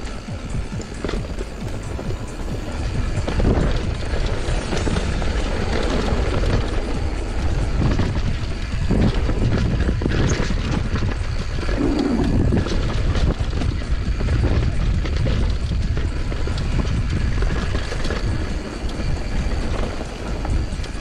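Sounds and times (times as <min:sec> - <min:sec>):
bike knocking and rattling: 0:00.0 - 0:21.0
tyres rumbling on dirt: 0:00.0 - 0:21.0.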